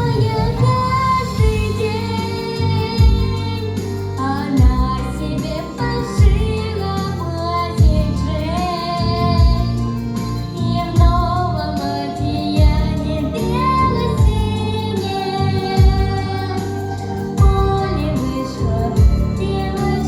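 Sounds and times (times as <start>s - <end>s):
backing track with drum beat: 0.0s - 20.0s
girl singing pop song: 0.0s - 20.0s.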